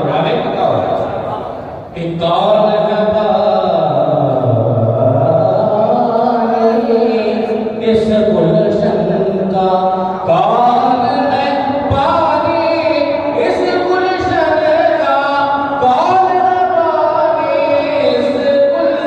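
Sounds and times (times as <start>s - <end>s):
man singing unaccompanied: 2.0s - 19.0s.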